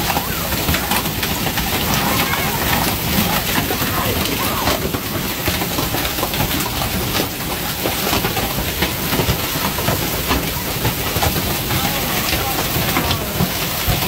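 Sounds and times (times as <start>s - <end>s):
hailstones clattering on ground and car: 0.0s - 14.0s
heavy rain hiss: 0.0s - 14.0s.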